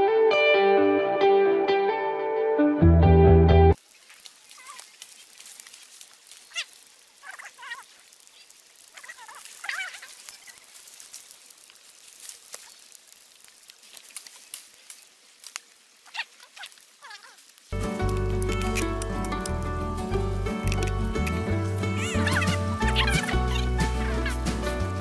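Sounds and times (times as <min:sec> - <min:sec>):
campfire crackling and popping: 0:03.7 - 0:25.0.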